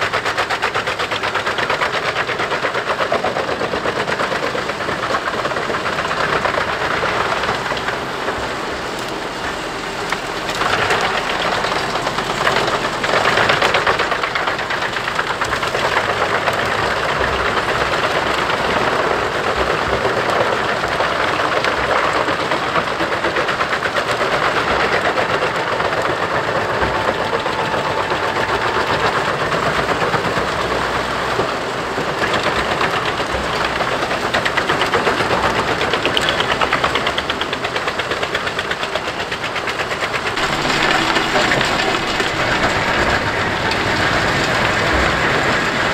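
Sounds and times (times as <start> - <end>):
drum chipper chipping branches: 0.0 - 45.9
engine running: 0.0 - 45.9.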